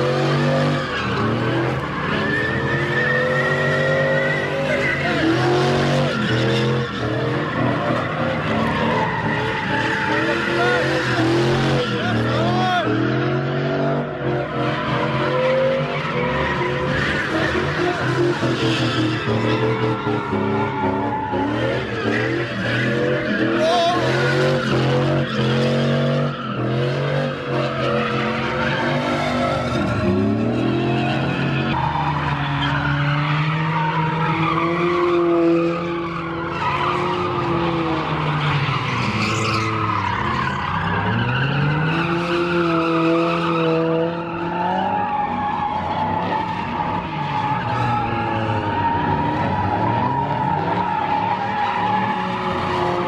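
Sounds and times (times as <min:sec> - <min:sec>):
car engines revving: 0:00.0 - 0:53.0
tyres skidding and squealing: 0:00.0 - 0:53.0.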